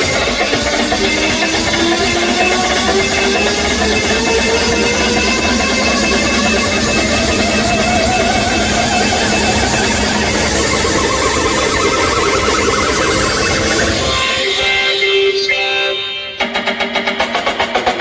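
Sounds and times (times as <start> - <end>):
loud dj music with heavy bass: 0.0 - 18.0.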